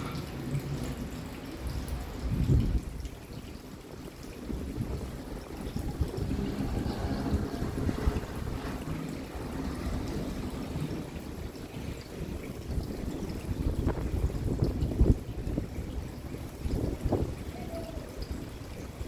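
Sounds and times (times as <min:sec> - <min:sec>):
rain falling steadily: 0:00.0 - 0:19.0
runoff water pouring: 0:00.0 - 0:19.0
water splashes: 0:00.0 - 0:19.0.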